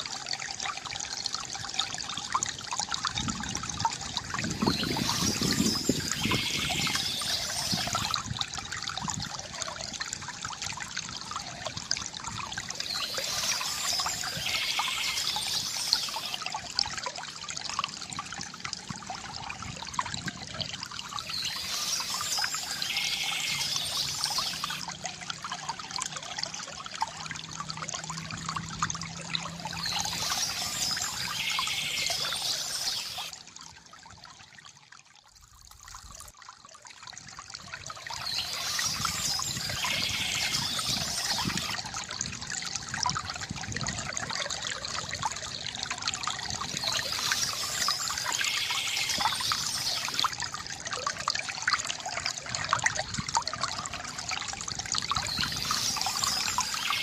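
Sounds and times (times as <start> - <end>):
water pouring from fountain spout: 0.0 - 57.0.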